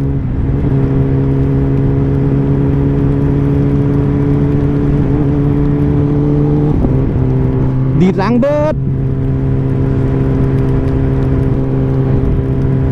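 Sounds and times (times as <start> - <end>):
motorcycle engine cruising: 0.0 - 12.9
steady rushing noise: 0.0 - 12.9.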